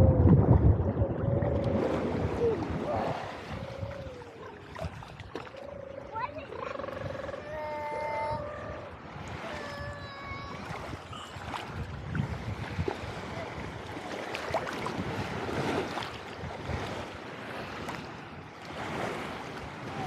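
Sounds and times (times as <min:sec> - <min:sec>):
sea waves splashing: 0:00.0 - 0:20.0
wind buffeting microphone: 0:00.0 - 0:20.0.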